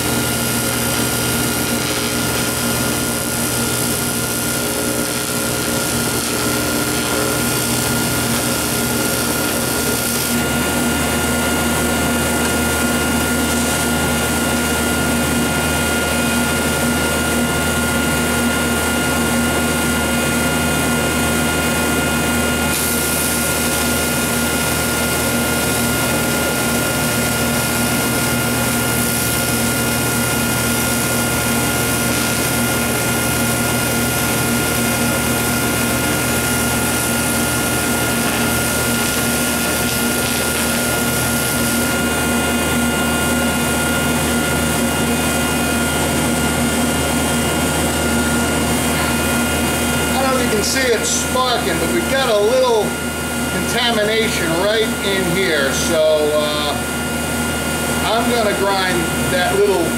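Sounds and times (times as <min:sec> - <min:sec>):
welder humming with high whine: 0:00.0 - 0:59.9.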